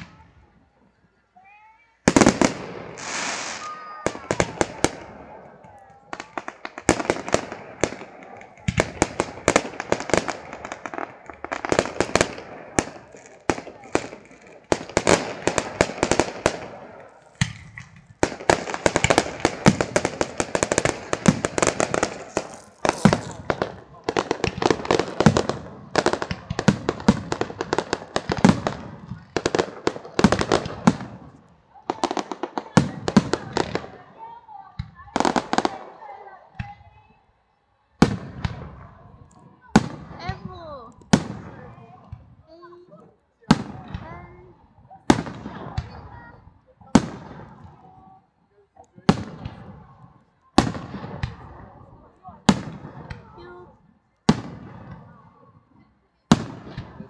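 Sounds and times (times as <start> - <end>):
fireworks bangs and crackles: 0.0 - 0.9, 2.0 - 37.2, 38.0 - 57.0.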